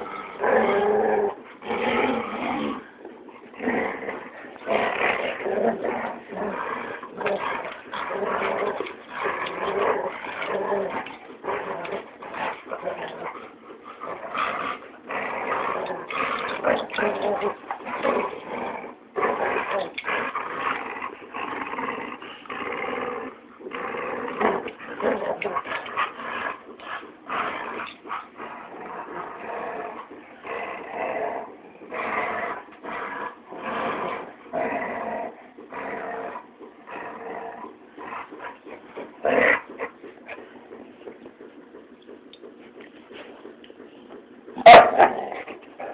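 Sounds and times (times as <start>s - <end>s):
dogs growling in play: 0.0s - 45.9s.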